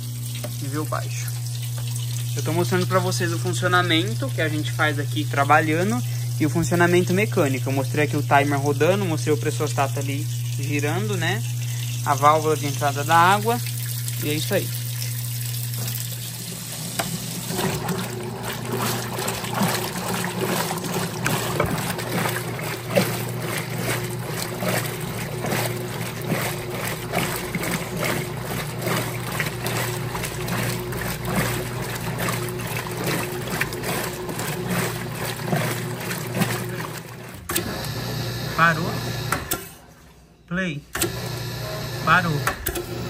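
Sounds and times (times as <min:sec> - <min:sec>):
water sloshing in tub: 0:00.0 - 0:40.2
washing machine motor hum: 0:00.0 - 0:43.0.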